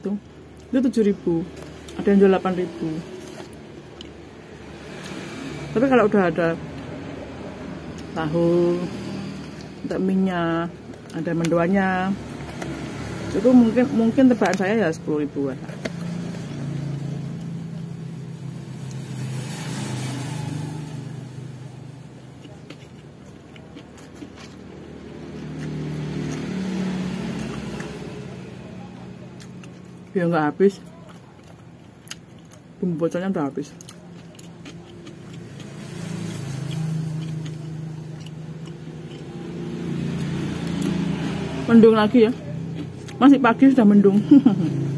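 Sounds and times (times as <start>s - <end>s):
vehicle engine humming: 0.0s - 31.4s, 34.0s - 44.9s.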